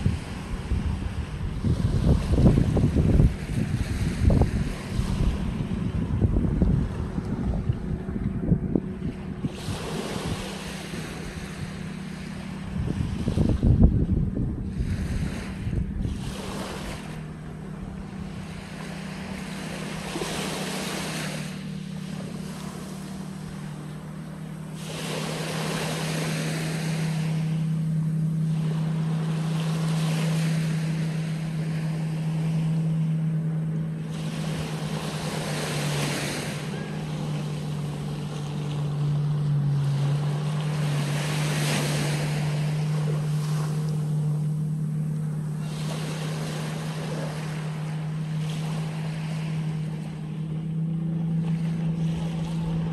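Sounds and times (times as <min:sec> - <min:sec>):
small waves washing on sand: 0:00.0 - 0:08.2, 0:09.0 - 0:14.0, 0:14.7 - 0:52.9
motorboat engine drone: 0:00.0 - 0:52.9.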